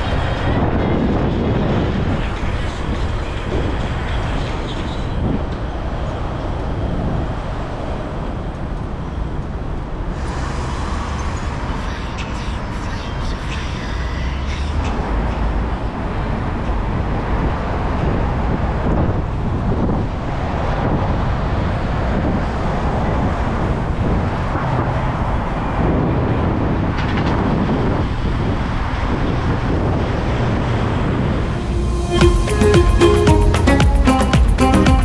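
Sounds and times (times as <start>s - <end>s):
wind buffeting microphone: 0.0s - 13.2s, 14.8s - 32.0s
road traffic noise: 0.0s - 35.0s.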